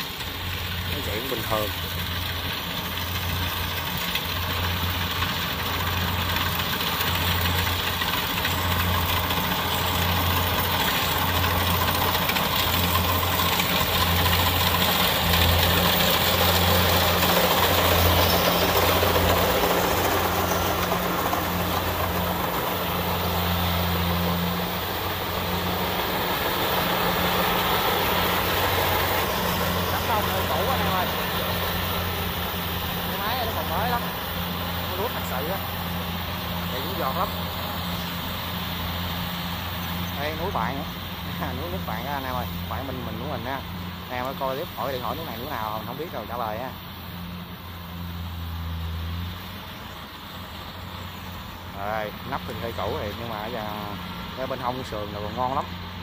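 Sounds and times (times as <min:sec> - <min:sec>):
combine harvester working: 0:00.0 - 0:56.0.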